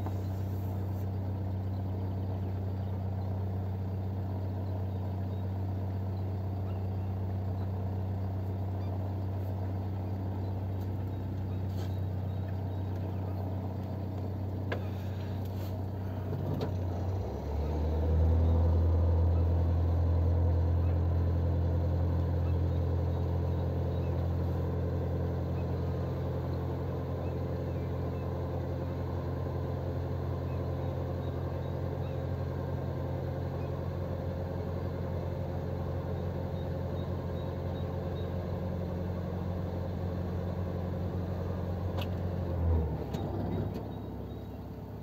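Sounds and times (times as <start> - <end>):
motorboat engine droning: 0.0 - 45.0.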